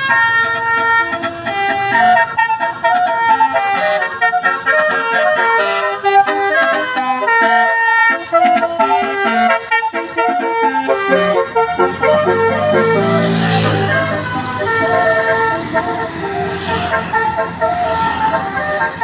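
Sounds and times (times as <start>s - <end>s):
bus musical horn melody: 0.0s - 19.0s.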